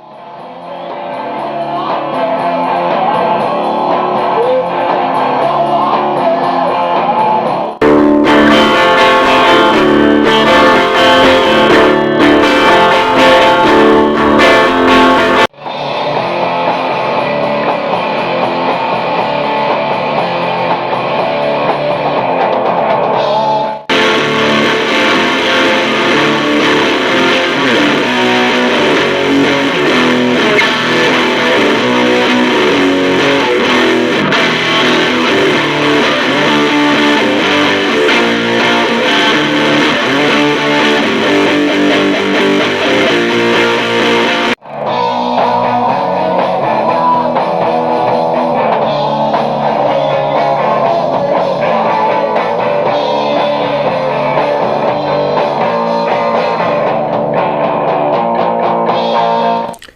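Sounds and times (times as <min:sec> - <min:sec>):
electric guitar rock riffs: 0:00.0 - 0:59.9.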